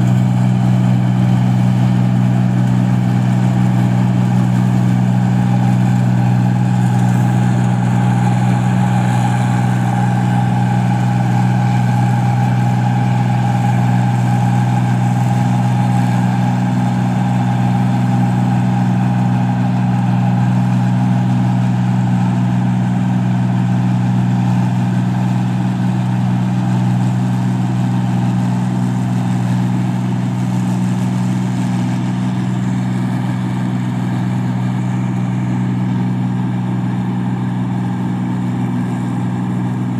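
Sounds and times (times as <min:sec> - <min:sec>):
machine engine drone: 0:00.0 - 0:39.9.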